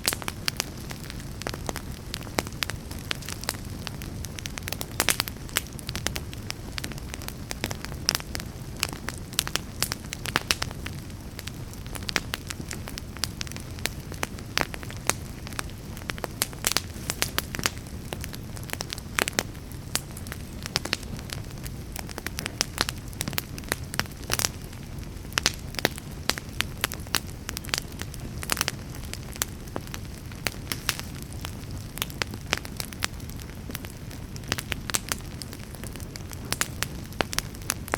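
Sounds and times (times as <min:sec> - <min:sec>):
fire rushing: 0:00.0 - 0:37.9
logs crackling and popping: 0:00.0 - 0:37.9.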